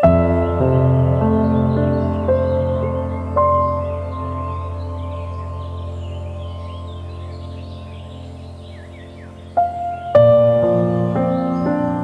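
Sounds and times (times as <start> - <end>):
calm ambient music: 0.0 - 12.0.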